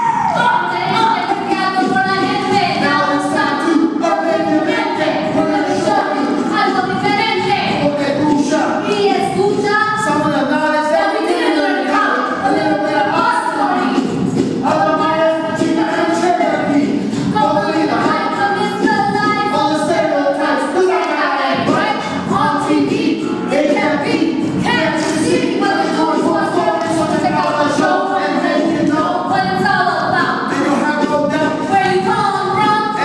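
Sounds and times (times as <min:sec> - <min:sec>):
group of people singing: 0:00.0 - 0:33.0.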